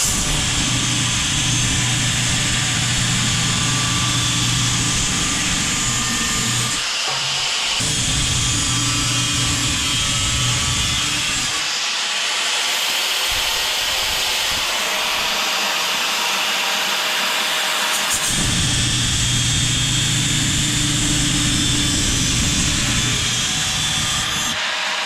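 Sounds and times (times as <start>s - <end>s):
power tool cutting steel: 0.0s - 25.0s.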